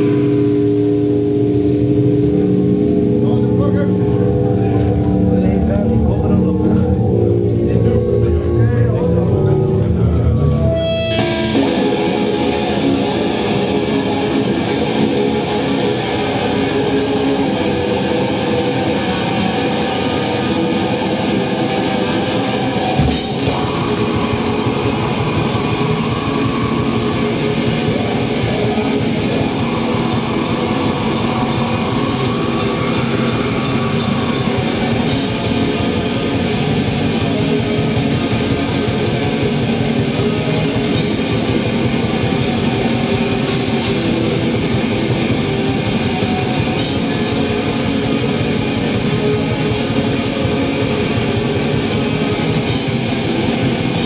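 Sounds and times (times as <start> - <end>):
metal band playing live: 0.0 - 54.0.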